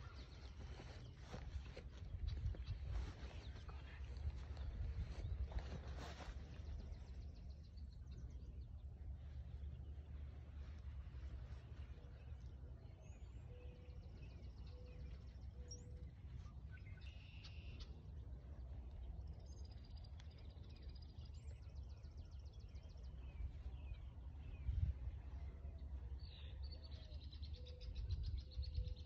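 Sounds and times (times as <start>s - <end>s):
birds singing: 0.0s - 29.0s
low steady rumble: 0.0s - 29.0s.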